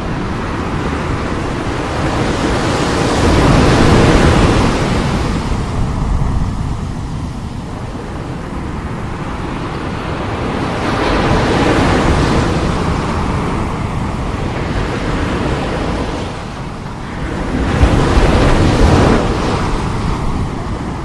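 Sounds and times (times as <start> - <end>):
sea waves breaking on shore: 0.0 - 21.0
wind buffeting microphone: 0.0 - 21.0.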